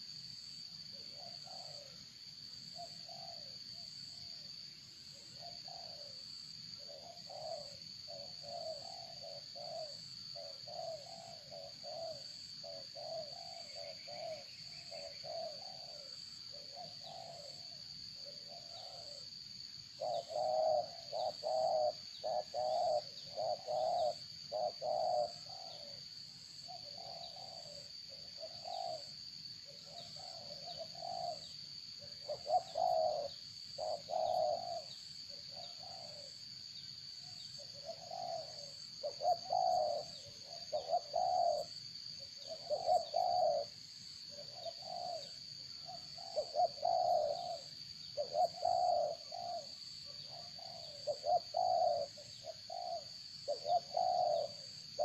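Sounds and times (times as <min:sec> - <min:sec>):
bird cooing: 0:00.0 - 0:00.2, 0:00.9 - 0:04.5, 0:05.1 - 0:55.0.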